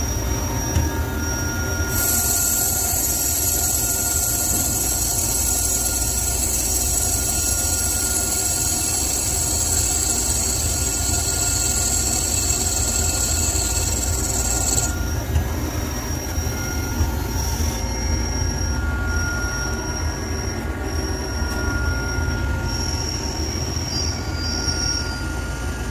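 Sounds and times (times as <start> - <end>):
lathe high-pitched squeal: 0.0 - 25.9.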